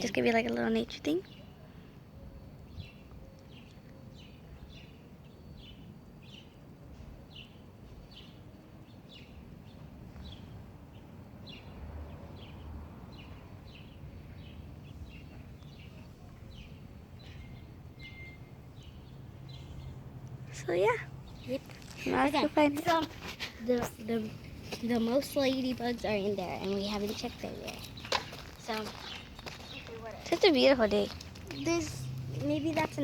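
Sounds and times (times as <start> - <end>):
bird chirping: 0.0 - 6.6, 7.3 - 23.1, 24.0 - 33.0.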